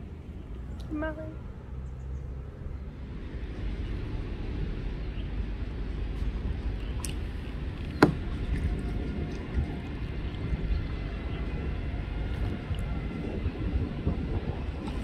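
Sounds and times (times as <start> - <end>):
low rumbling: 0.0 - 15.0.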